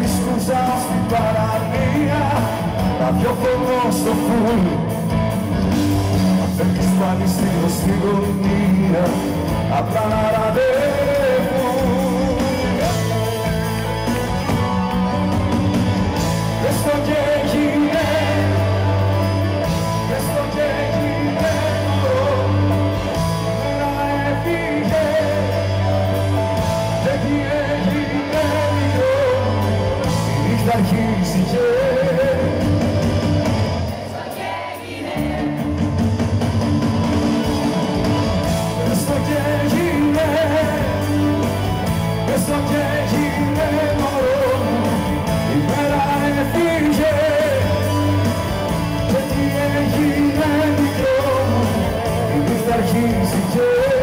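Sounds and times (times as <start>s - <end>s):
man singing: 0.0s - 5.2s, 6.1s - 14.9s, 16.1s - 33.2s, 38.6s - 54.0s
pop-rock band playing: 0.0s - 54.0s.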